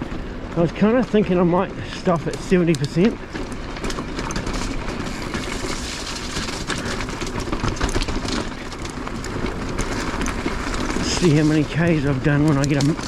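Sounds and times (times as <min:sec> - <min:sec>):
bike rattling and clicking: 0:00.0 - 0:13.0
steady rumble: 0:00.0 - 0:13.0
tyres crunching on gravel: 0:00.0 - 0:13.0.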